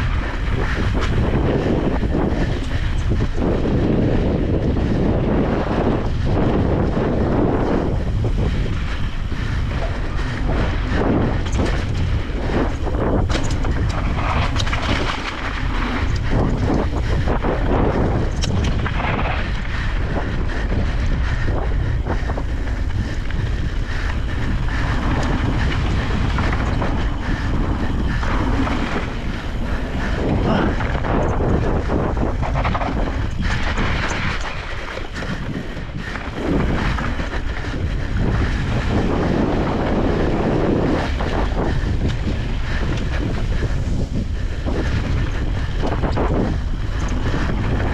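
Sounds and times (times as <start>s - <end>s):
bike knocks and rattles: 0.0s - 47.9s
wind rushing over microphone: 0.0s - 47.9s.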